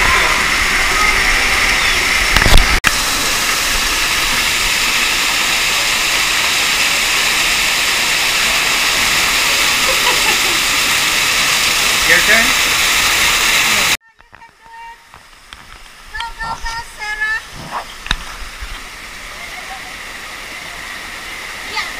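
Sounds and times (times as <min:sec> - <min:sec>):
waterfall rushing: 0:00.0 - 0:14.0, 0:15.0 - 0:21.9.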